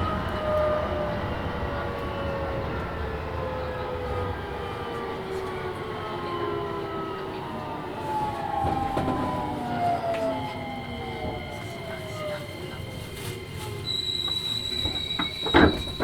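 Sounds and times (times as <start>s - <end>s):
electric train motor whining: 0.0s - 16.0s
wheels rumbling on rail: 0.0s - 16.0s.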